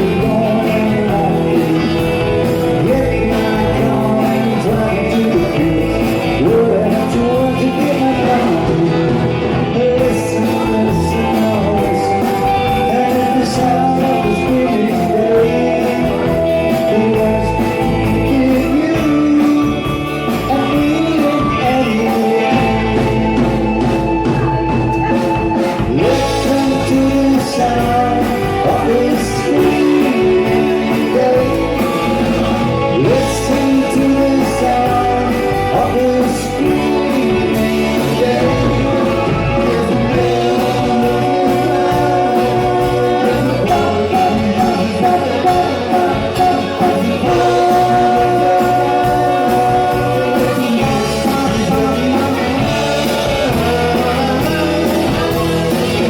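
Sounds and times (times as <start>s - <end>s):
live rock and roll band: 0.0s - 56.0s.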